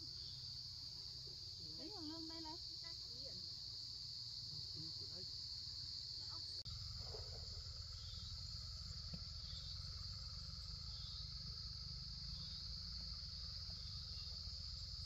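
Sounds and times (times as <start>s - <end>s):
insect chorus droning: 0.0s - 15.0s.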